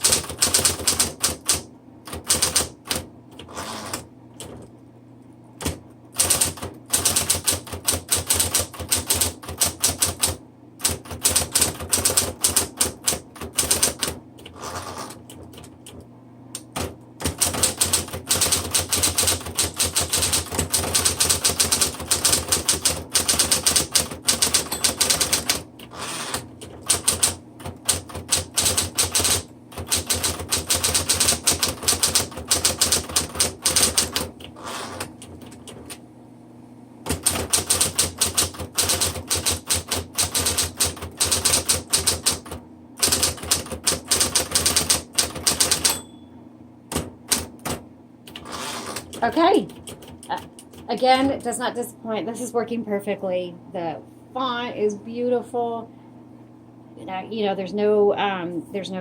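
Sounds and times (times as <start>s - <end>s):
typewriter keystrokes: 0.0s - 4.6s, 5.6s - 16.0s, 16.6s - 36.0s, 37.1s - 46.1s, 46.9s - 50.9s
typewriter motor humming: 0.0s - 4.7s, 5.6s - 36.0s, 37.0s - 46.1s, 46.9s - 51.3s.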